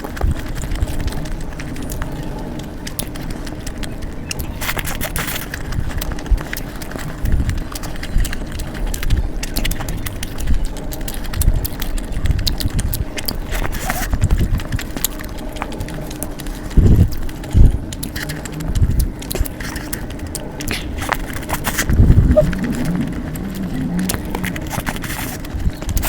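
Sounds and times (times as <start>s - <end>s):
chewing with mouth clicks: 0.1s - 26.0s.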